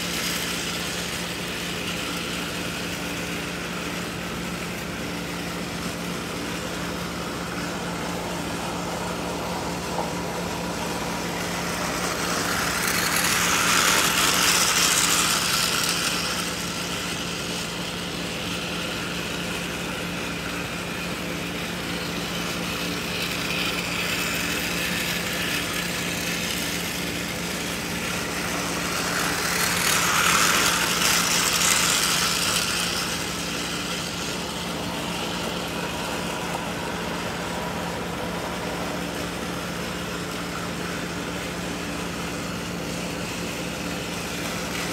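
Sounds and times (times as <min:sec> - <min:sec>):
toy train motors whirring: 0:00.0 - 0:44.9.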